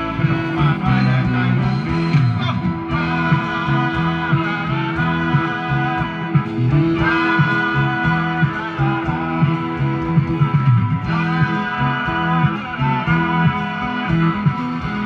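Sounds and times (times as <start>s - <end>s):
electric guitar: 0.0s - 15.0s
live rock band playing: 0.0s - 15.0s
repeating bass line: 0.0s - 15.0s.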